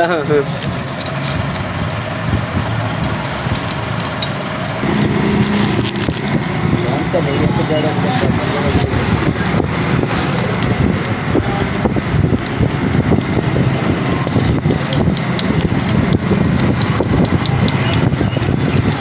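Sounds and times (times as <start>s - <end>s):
vehicle engine noise: 0.0s - 19.0s.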